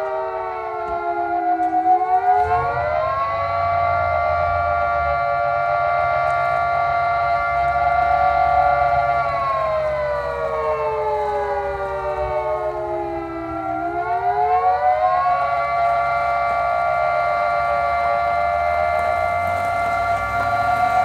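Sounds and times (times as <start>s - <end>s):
air raid siren: 0.0s - 21.0s.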